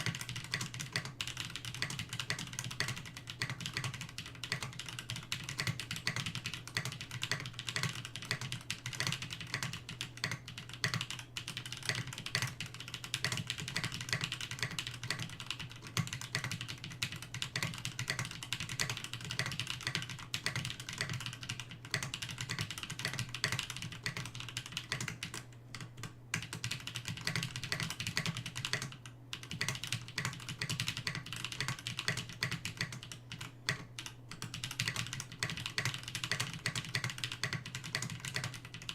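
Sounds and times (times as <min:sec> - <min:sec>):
faint low hum: 0:00.0 - 0:38.9
fast typing on mechanical keyboard: 0:00.0 - 0:38.9.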